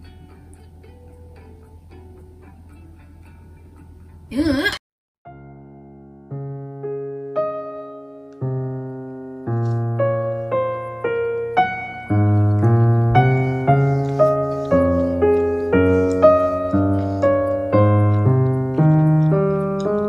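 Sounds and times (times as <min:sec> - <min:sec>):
gentle keyboard music: 0:00.0 - 0:04.3, 0:05.3 - 0:20.0.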